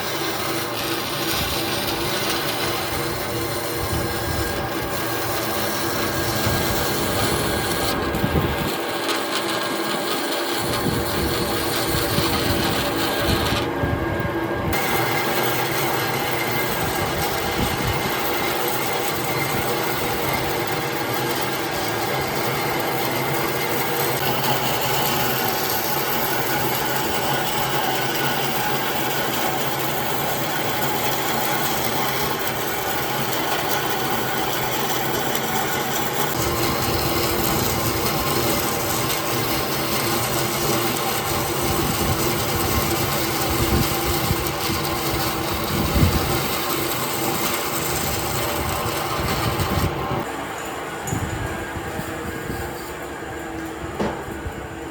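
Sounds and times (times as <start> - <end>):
woodworking power tool running: 0.0 - 54.9.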